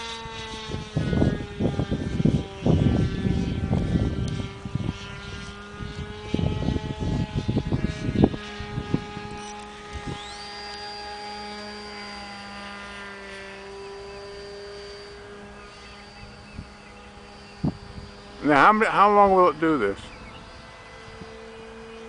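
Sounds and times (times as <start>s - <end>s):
wind buffeting microphone: 0.0s - 12.9s, 13.6s - 22.0s
high motor whine: 0.0s - 22.0s
model glider motor droning: 0.0s - 22.0s.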